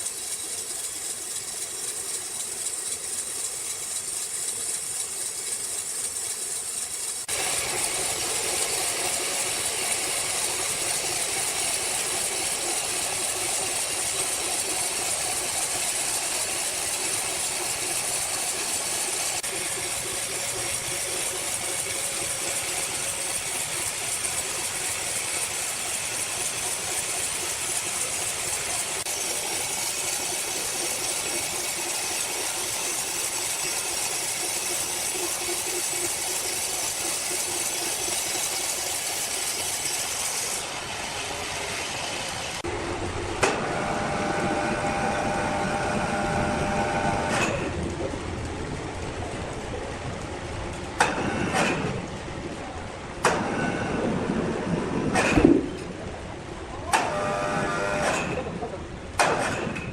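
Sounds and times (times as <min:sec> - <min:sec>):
sawmill machinery din: 0:00.0 - 0:59.9.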